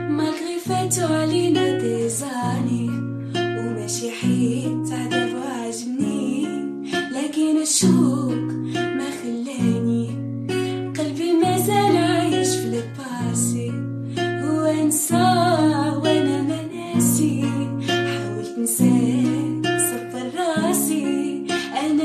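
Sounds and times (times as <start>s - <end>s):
guitar accompaniment: 0.0s - 22.0s
person singing: 0.0s - 22.0s.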